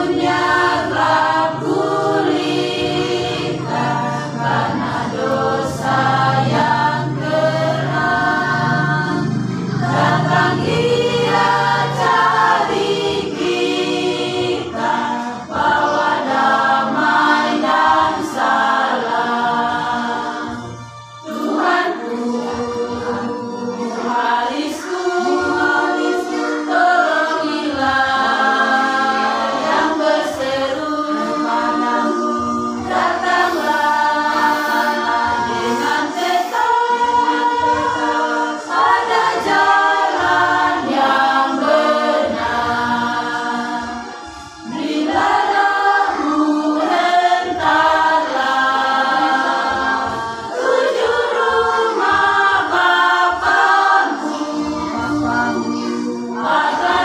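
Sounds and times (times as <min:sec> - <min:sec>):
women's choir singing a hymn: 0:00.0 - 0:57.0.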